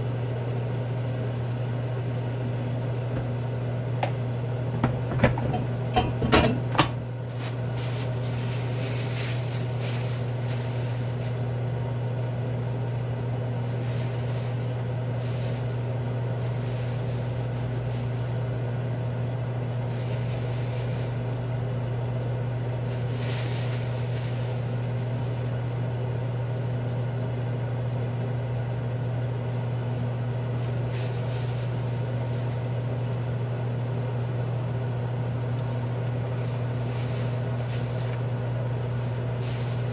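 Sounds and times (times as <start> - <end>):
appliance motor humming: 0.0 - 39.9.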